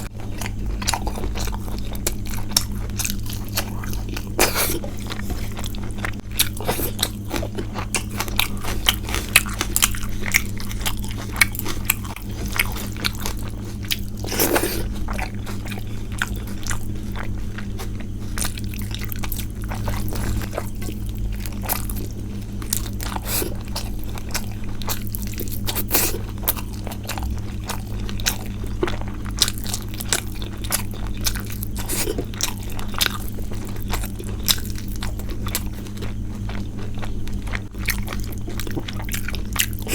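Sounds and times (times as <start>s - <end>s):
person chewing and crunching: 0.0s - 39.9s
steady low hum: 0.0s - 39.9s.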